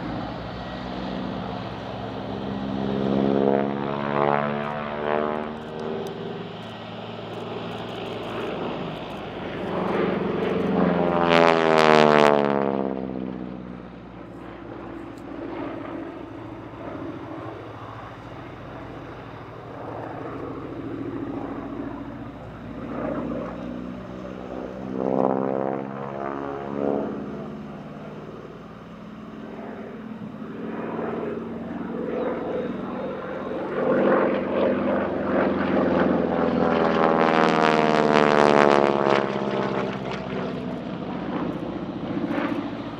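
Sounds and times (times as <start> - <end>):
propeller plane engine passing: 0.0 - 42.9.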